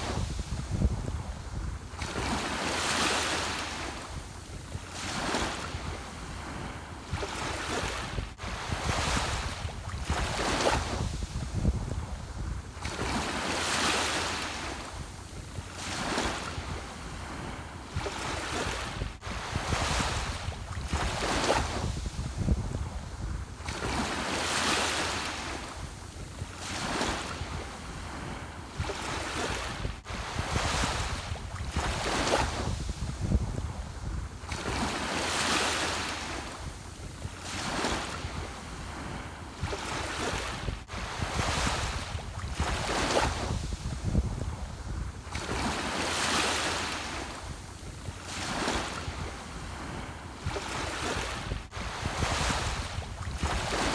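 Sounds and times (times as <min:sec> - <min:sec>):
ocean waves breaking: 0:00.0 - 0:53.9
wind rumble on microphone: 0:00.0 - 0:53.9.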